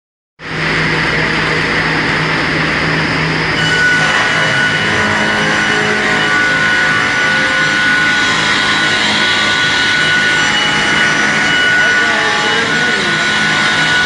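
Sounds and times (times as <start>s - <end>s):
high steady whining tones: 0.4s - 14.0s
slicing machine mechanical din: 0.4s - 14.0s.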